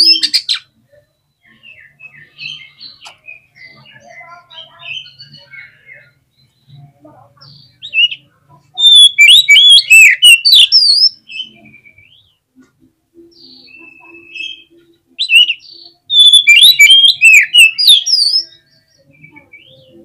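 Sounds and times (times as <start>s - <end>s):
bird singing whistles and chatter: 0.0s - 12.4s, 13.2s - 20.0s.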